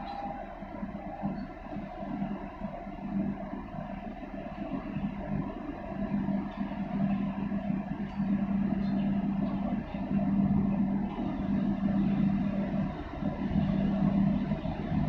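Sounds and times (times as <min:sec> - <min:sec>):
broad rumble: 0:00.0 - 0:15.0
ship engine drone: 0:00.0 - 0:15.0.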